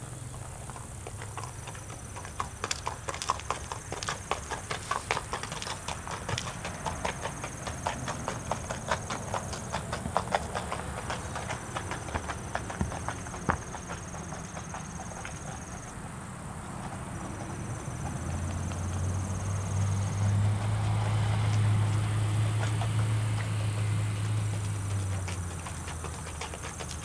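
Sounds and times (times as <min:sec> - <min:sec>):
horse hooves on gravel: 0:00.0 - 0:27.0.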